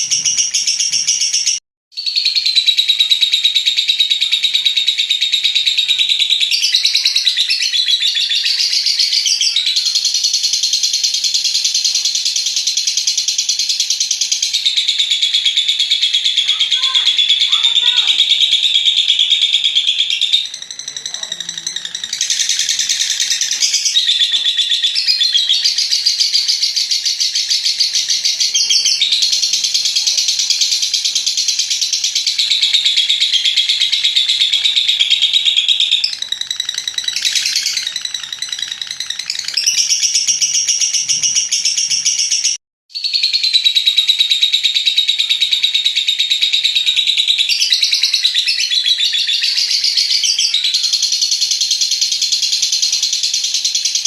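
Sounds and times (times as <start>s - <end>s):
bird chattering trill: 0.0s - 54.0s.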